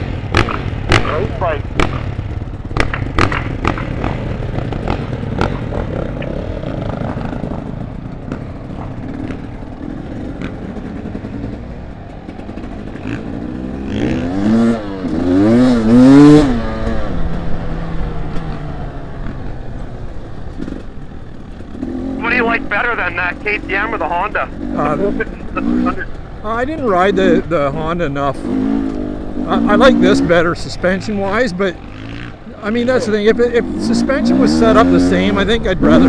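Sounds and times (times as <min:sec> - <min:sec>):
dirt bike engine revving: 0:00.0 - 0:07.8, 0:12.5 - 0:36.0.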